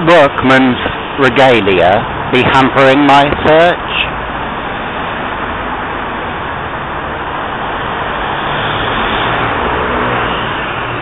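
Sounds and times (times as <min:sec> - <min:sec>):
busy road traffic: 0:00.0 - 0:11.0.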